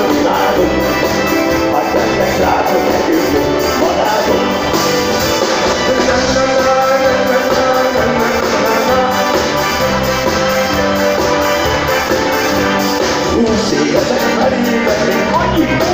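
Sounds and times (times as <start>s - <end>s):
live pop band playing: 0.0s - 15.9s.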